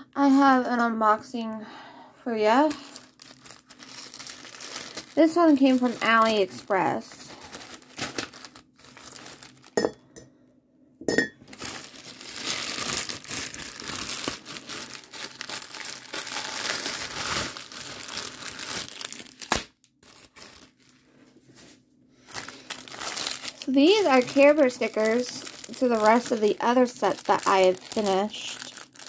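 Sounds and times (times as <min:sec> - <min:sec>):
plastic bag crinkling: 0:02.4 - 0:09.9, 0:11.4 - 0:29.0.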